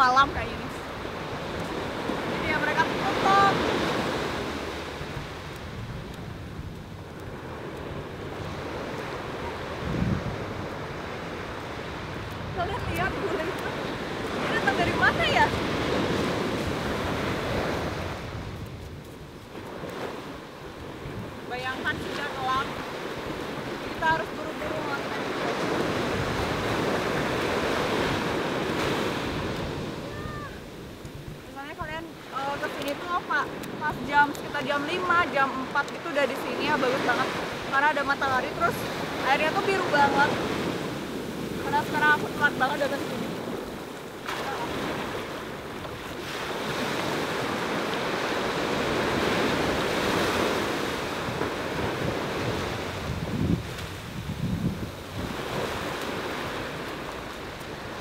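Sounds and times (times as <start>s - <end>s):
sea surf breaking on beach: 0.0s - 58.0s
wind buffeting microphone: 0.0s - 58.0s.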